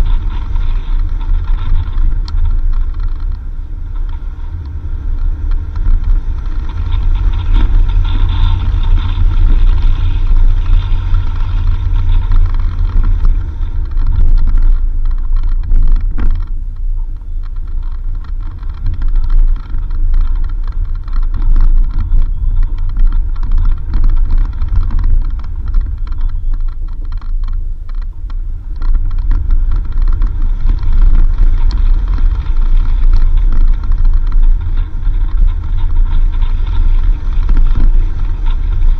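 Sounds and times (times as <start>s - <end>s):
clicks and rattles: 0.0s - 38.9s
vehicle engine and road rumble: 0.0s - 38.9s.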